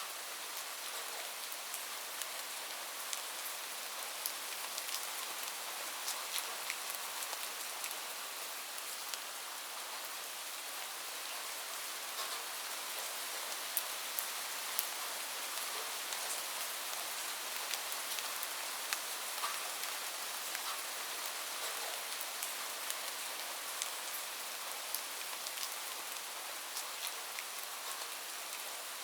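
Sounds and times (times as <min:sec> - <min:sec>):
rain falling on a roof: 0:00.0 - 0:29.0.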